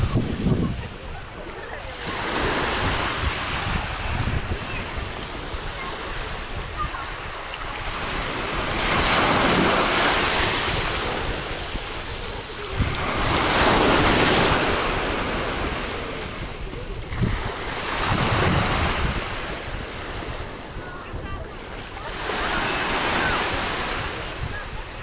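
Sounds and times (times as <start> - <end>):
wind buffeting microphone: 0.0 - 25.0
waves washing up pebble beach: 1.9 - 20.3, 21.6 - 25.0.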